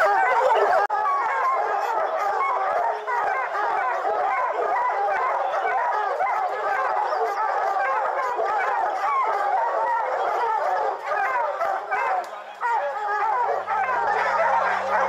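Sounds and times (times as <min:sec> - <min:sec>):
hounds baying: 0:00.0 - 0:15.0.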